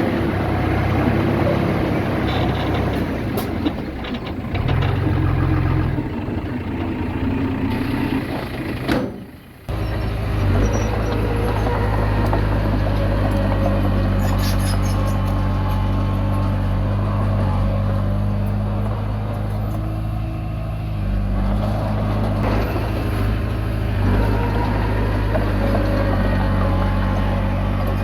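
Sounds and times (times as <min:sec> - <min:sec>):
bulldozer diesel engine running: 0:00.0 - 0:28.0.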